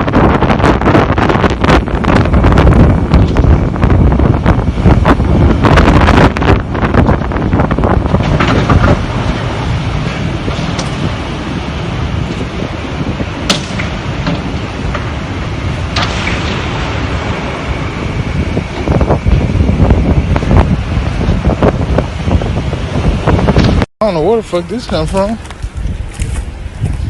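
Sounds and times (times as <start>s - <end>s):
hail and rain: 0.0s - 23.9s
wind buffeting microphone: 0.0s - 27.0s.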